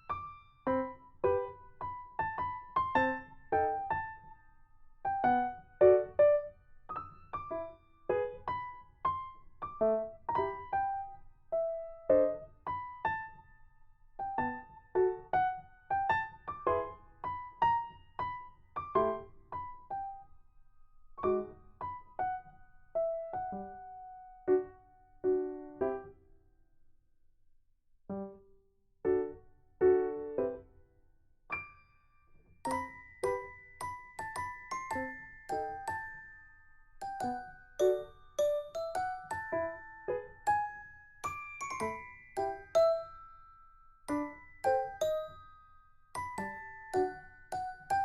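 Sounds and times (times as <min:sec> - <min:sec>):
gentle keyboard melody: 0:00.0 - 0:20.4, 0:21.0 - 0:26.3, 0:28.1 - 0:30.9, 0:31.5 - 0:48.0.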